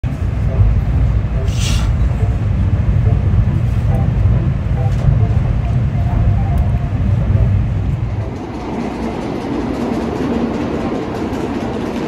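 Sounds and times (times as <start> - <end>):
deep rumble inside moving train: 0.0 - 12.0
train rolling past platform: 0.0 - 12.0.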